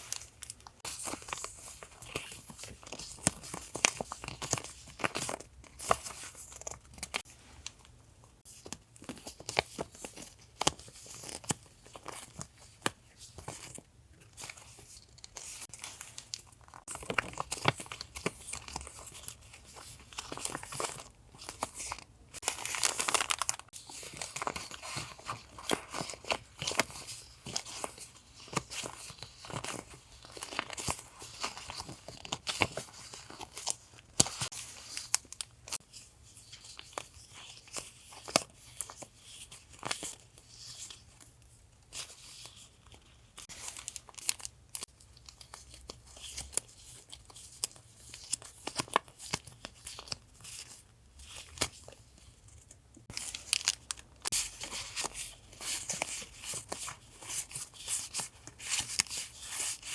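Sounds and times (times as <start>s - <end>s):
packaging crinkling and rustling: 0.0s - 59.9s.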